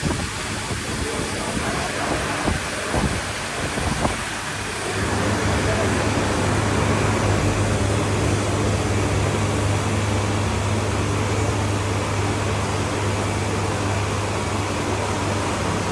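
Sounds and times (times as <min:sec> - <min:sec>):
milling machine running: 0:00.0 - 0:15.9.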